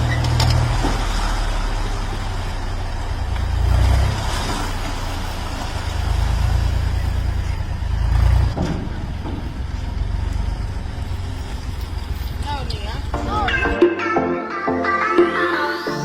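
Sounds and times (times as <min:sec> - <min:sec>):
heavy diesel machinery rumbling: 0:00.0 - 0:13.8.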